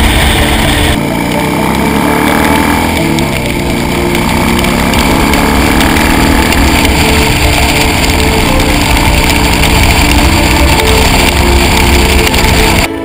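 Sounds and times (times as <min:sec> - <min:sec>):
tyre noise on wet pavement: 0:00.0 - 0:12.9
motorcycle engine running: 0:00.0 - 0:13.0.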